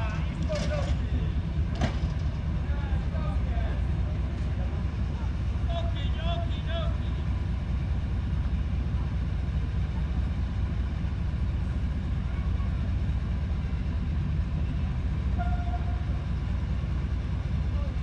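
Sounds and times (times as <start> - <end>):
diesel locomotive idling: 0.0 - 18.0.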